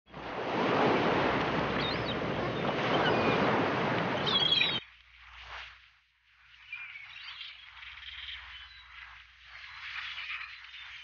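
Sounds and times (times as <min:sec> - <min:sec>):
small waves washing on shore: 0:00.1 - 0:11.0.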